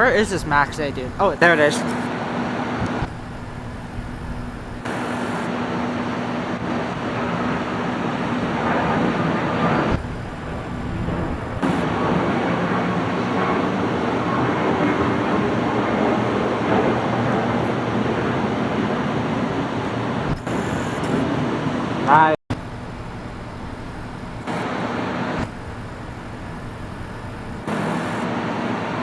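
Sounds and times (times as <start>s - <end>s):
jet engines roaring on takeoff: 0.0s - 29.0s.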